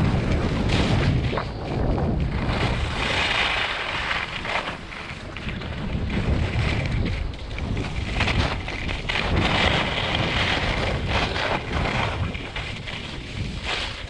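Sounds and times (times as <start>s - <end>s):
skis scraping on snow: 0.0s - 14.0s
wind buffeting microphone: 0.0s - 14.0s.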